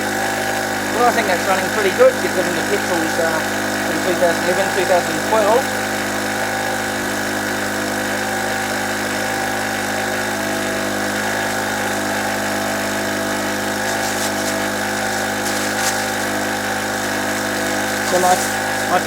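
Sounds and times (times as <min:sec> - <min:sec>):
portable generator running: 0:00.0 - 0:19.0.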